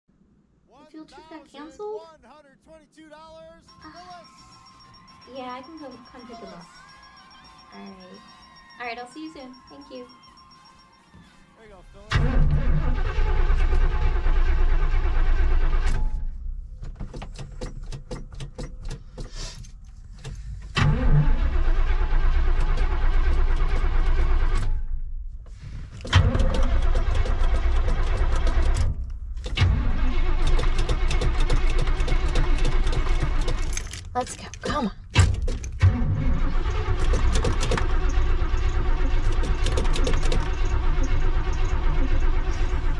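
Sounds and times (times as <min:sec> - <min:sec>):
starter cranking engine: 0:03.7 - 0:11.0, 0:12.0 - 0:24.9, 0:26.0 - 0:42.9.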